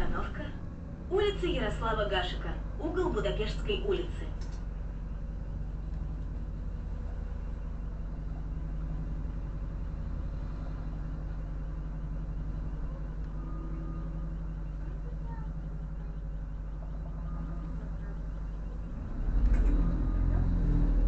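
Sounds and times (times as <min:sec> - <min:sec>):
bus engine humming: 0:00.0 - 0:21.0.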